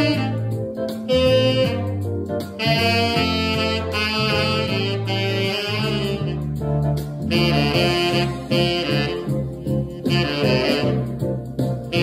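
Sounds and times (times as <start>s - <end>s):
backing accompaniment: 0.0s - 12.0s
saxophone melody: 0.0s - 12.0s.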